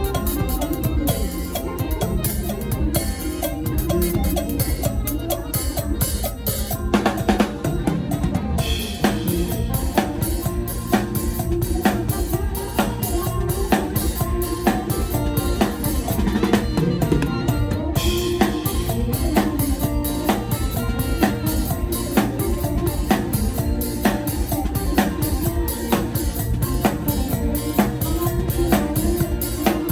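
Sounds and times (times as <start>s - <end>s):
band music: 0.0s - 29.9s
drum kit beat: 0.0s - 29.9s.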